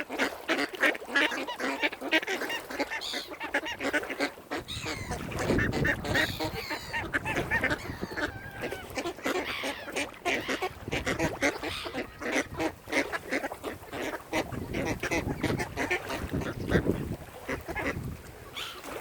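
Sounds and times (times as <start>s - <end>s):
waterfowl calling: 0.0s - 19.0s.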